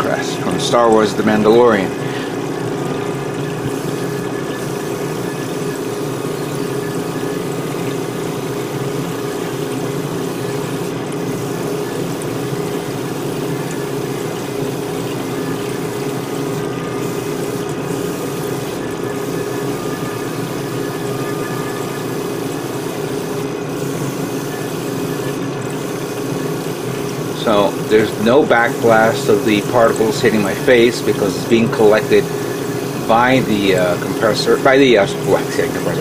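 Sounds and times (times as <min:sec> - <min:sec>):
air compressor humming: 0:00.0 - 0:36.0
fan whirring: 0:00.0 - 0:36.0
rushing water: 0:00.0 - 0:36.0
airbrush spraying: 0:03.6 - 0:08.6, 0:09.2 - 0:20.9, 0:21.8 - 0:36.0.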